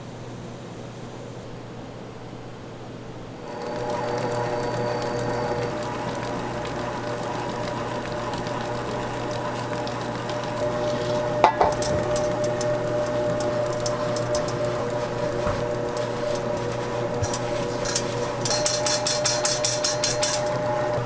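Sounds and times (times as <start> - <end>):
kitchen machine motor hum: 3.4 - 21.0
metal sieve being shaken: 3.4 - 21.0.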